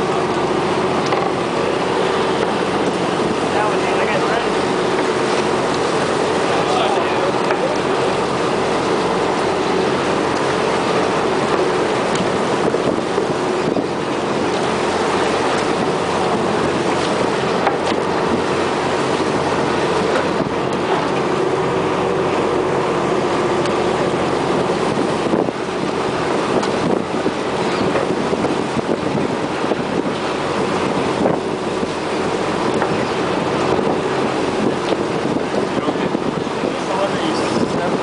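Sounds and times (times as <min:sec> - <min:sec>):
boat engine droning: 0:00.0 - 0:38.0
water noise: 0:00.0 - 0:38.0
wind: 0:00.0 - 0:38.0.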